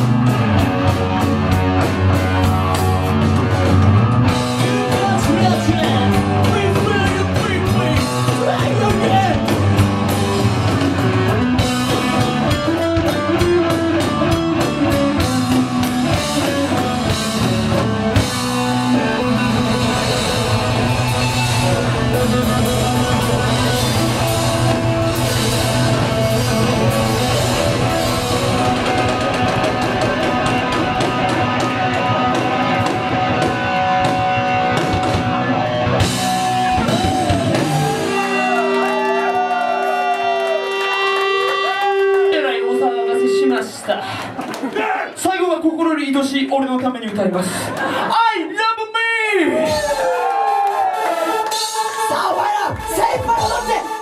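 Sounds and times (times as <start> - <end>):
rock band playing live: 0.0 - 45.3.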